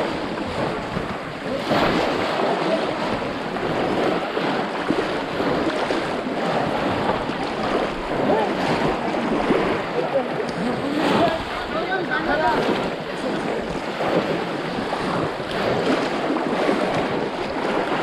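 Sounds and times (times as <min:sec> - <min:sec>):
water splashing as people wade: 0:00.0 - 0:18.0.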